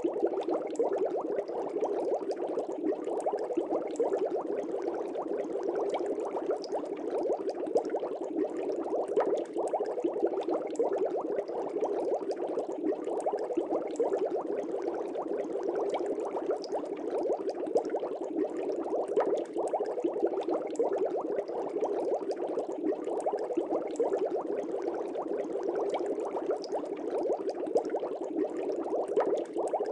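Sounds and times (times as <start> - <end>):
water bubbling: 0.0 - 29.9.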